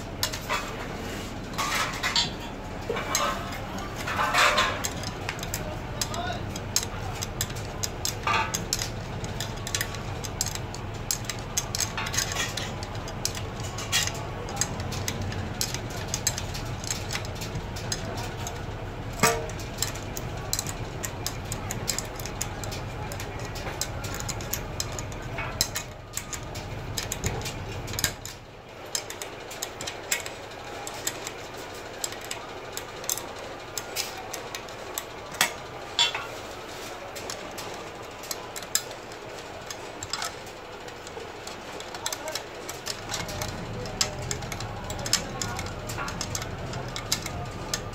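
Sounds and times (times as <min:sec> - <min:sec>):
metallic clicks and clinks: 0:00.0 - 0:47.9.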